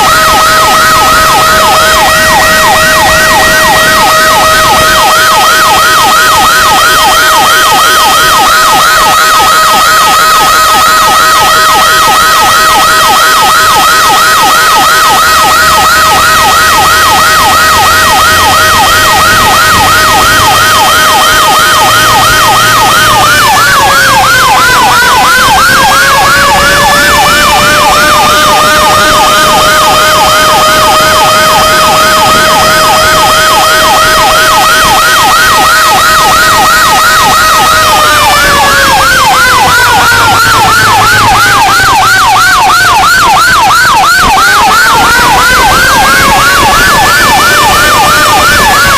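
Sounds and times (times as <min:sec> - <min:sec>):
fire truck siren yelp: 0:00.0 - 0:48.9
steady siren tone: 0:00.0 - 0:48.9.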